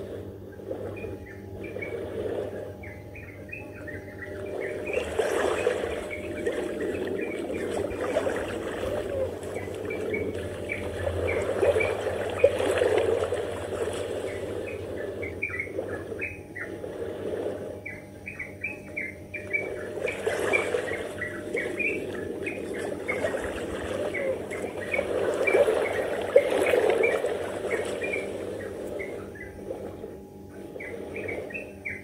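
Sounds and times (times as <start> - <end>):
small birds chirping: 2.8 - 16.8, 17.8 - 29.6, 30.5 - 32.0.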